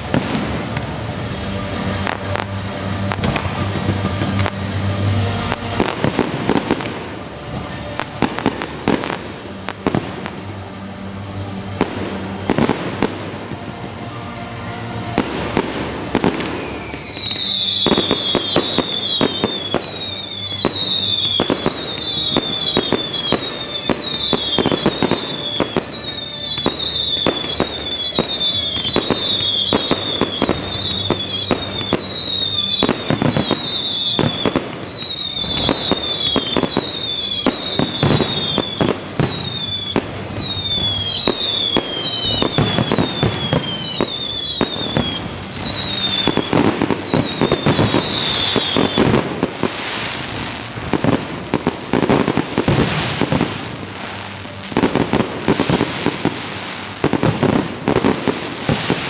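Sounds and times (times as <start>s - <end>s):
fireworks whistling: 0.0s - 13.9s, 15.1s - 59.0s
fireworks bangs: 0.0s - 59.0s.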